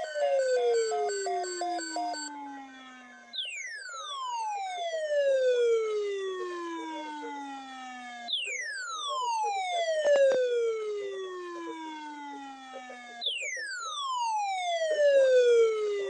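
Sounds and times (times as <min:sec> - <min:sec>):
weather radio siren-like alarm: 0:00.0 - 0:16.0.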